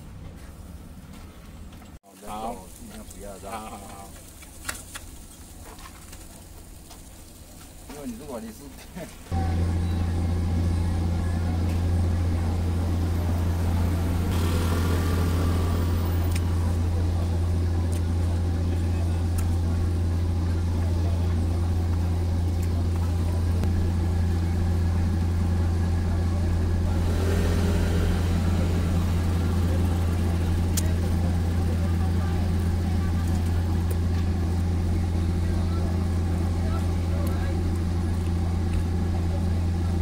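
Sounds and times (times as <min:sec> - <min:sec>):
engine idling hum: 0:00.0 - 0:40.0
light street noise: 0:00.0 - 0:40.0.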